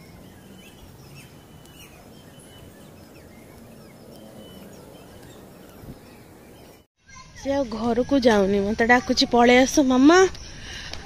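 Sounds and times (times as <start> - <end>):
birds chirping: 0.0 - 9.2
outdoor background hum: 0.0 - 11.0.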